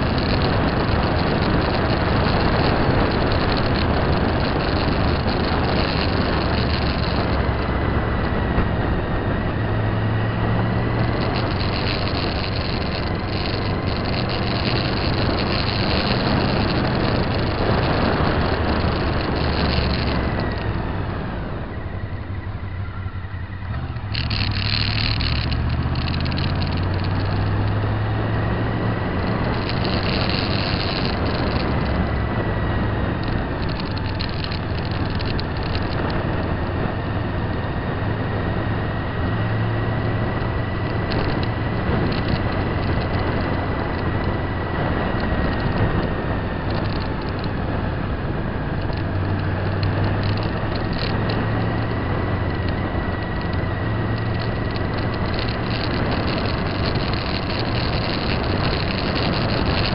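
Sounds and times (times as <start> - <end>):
vehicle running noise: 0.0 - 59.9.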